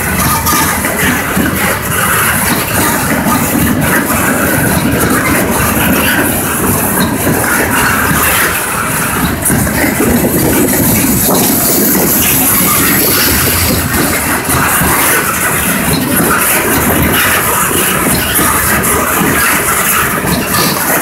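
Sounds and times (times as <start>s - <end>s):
freight train wheels on rails: 0.0s - 21.0s.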